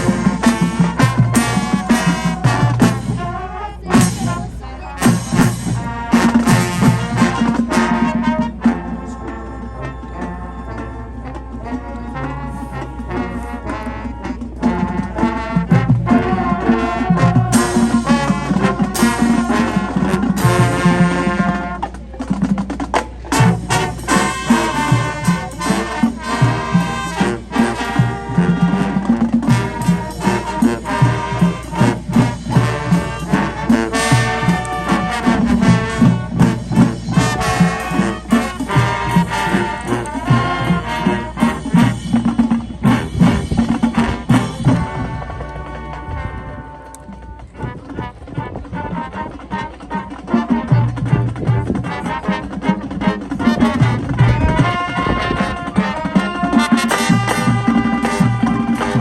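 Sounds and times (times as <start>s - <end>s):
brass band playing: 0.0s - 59.0s
drumline: 0.0s - 59.0s.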